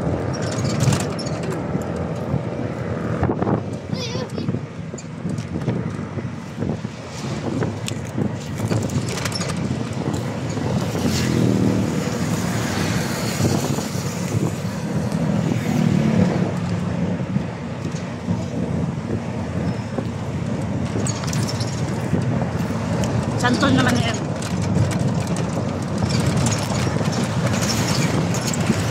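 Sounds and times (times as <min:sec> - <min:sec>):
vehicle engine and road noise: 0:00.0 - 0:28.9
wind on microphone: 0:00.0 - 0:28.9.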